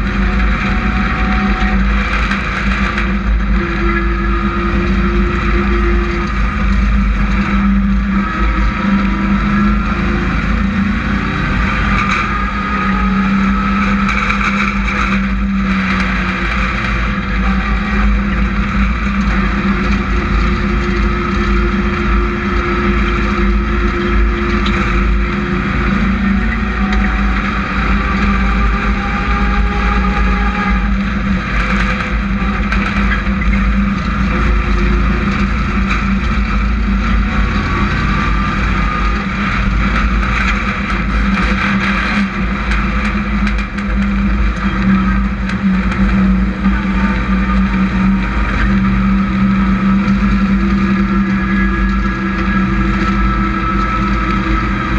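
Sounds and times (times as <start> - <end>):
race truck engines rumbling: 0.0 - 54.9.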